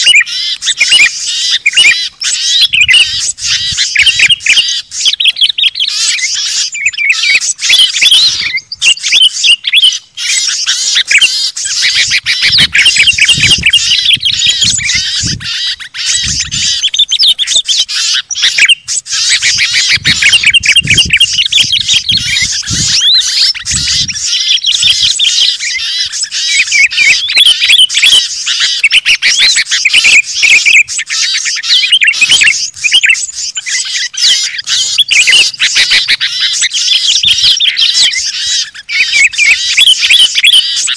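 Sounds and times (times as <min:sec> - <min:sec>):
songbirds chirping and chattering: 0:00.0 - 0:40.9.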